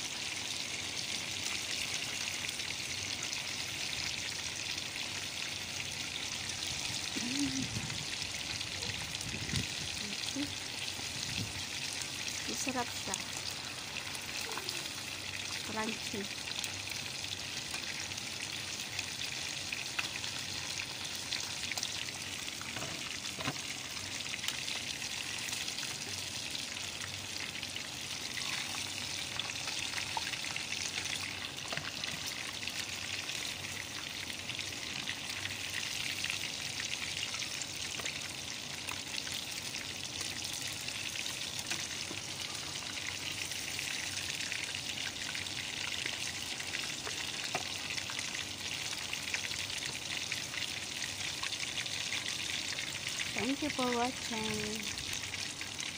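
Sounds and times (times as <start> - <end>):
chicken deep-frying in oil: 0.0 - 55.9.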